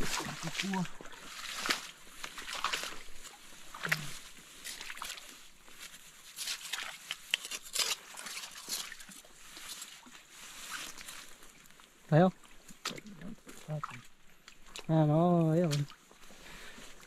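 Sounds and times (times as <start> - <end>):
rustling among leaves and stones: 0.0 - 14.8.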